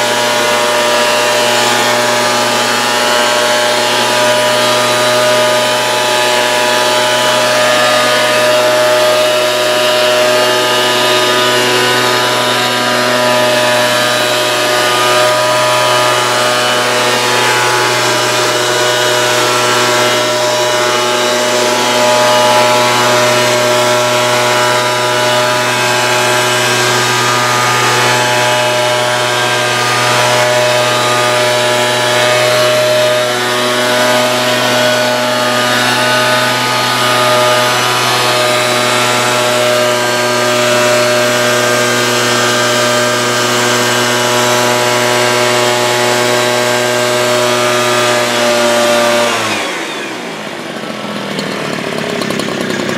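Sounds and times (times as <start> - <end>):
motorised powder blower running: 0.0 - 52.9.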